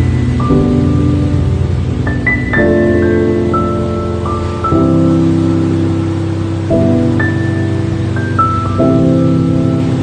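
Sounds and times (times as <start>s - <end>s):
sea waves hissing: 0.0s - 10.0s
slow ambient music chords: 0.0s - 10.0s.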